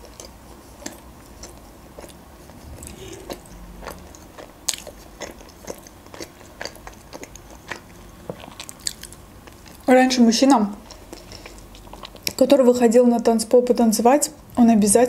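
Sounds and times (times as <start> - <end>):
chewing food: 0.0 - 12.6.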